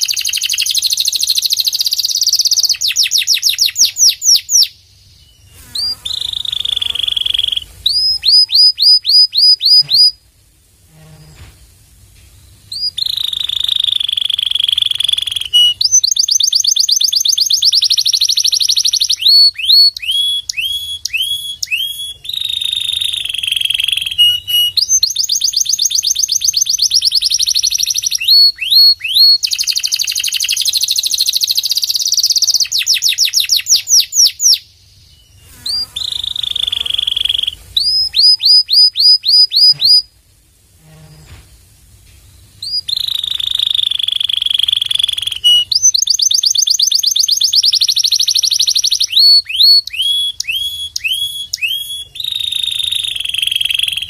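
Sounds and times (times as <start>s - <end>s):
canary singing: 0.0s - 10.2s, 12.7s - 40.1s, 42.5s - 54.0s.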